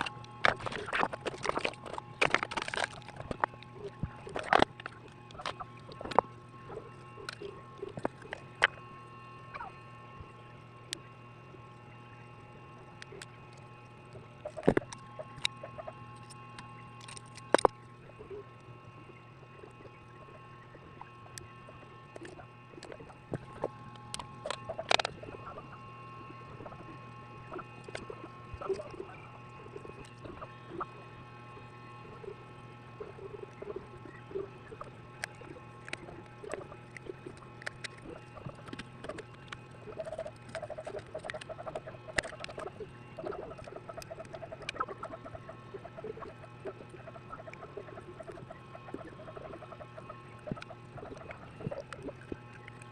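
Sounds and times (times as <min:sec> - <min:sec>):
electrical hum: 0:00.0 - 0:52.9.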